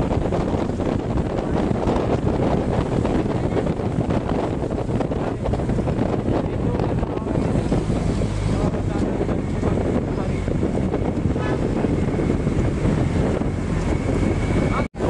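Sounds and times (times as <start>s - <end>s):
bus driving rumble: 0.0s - 15.0s
wind rushing over microphone: 0.0s - 15.0s.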